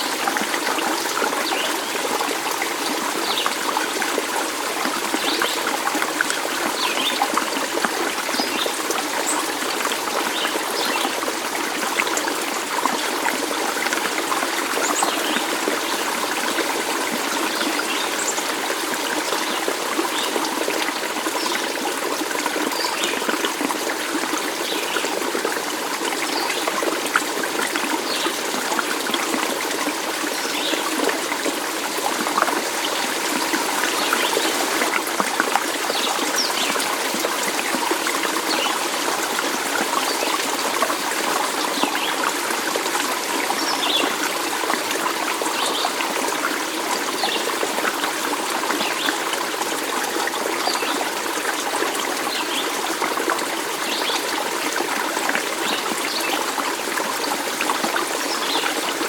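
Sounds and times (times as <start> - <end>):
stream trickling and gurgling: 0.0 - 59.0.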